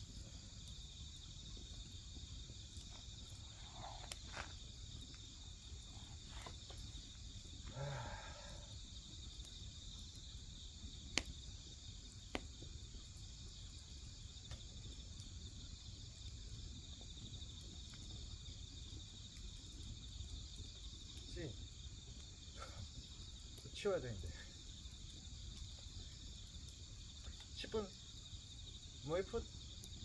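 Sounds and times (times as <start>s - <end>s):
crickets chirring: 0.0s - 30.0s
firewood popping: 0.0s - 30.0s.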